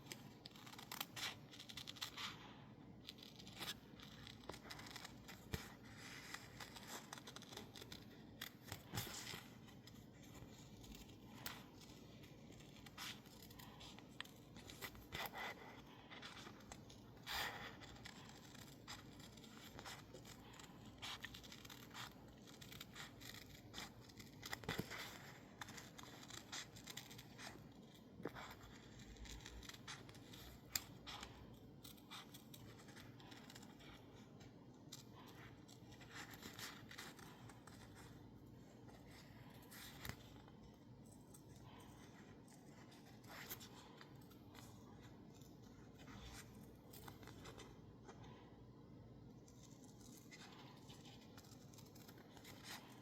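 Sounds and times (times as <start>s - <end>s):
paper rustling: 0.0s - 48.5s
scissors snipping paper: 0.0s - 48.5s, 49.2s - 53.0s.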